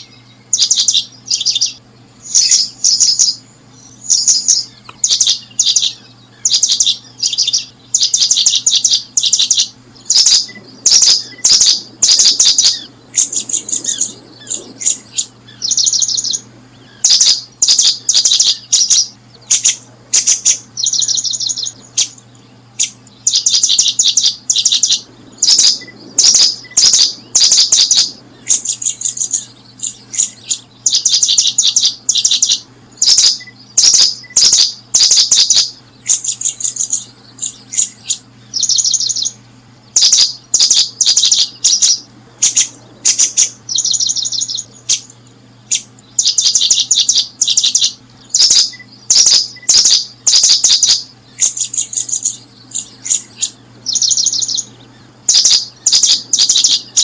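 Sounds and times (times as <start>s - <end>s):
faint low hum: 0.0s - 57.0s
small birds trilling: 0.0s - 57.0s.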